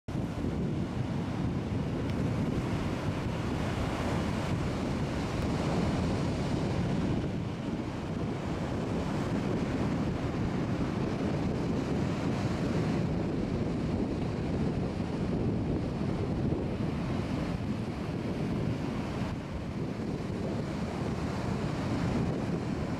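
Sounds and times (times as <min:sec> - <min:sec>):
ocean surf breaking: 0:00.1 - 0:22.9
wind buffeting microphone: 0:00.1 - 0:22.9.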